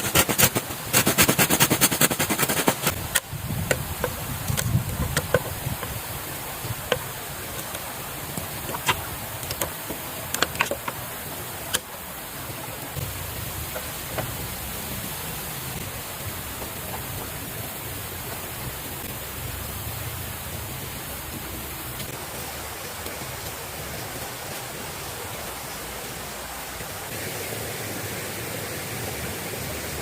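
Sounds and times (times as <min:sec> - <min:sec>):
water rushing: 0:00.0 - 0:30.0.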